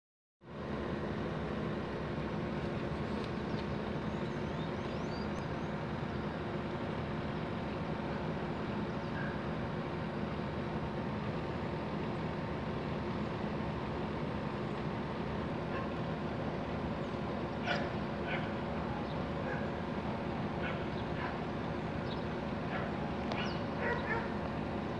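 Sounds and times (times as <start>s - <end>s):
low mechanical hum: 0.4s - 24.9s.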